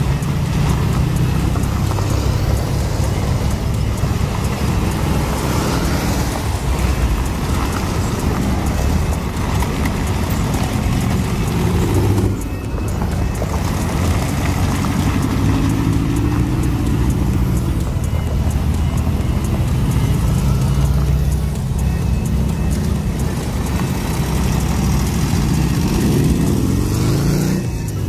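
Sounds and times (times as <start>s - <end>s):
motor trike engines rumbling: 0.0s - 28.0s.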